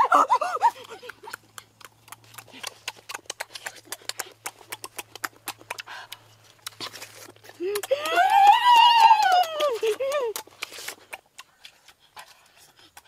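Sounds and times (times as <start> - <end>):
fruit crunching while chewed: 0.0 - 8.5, 9.4 - 13.0.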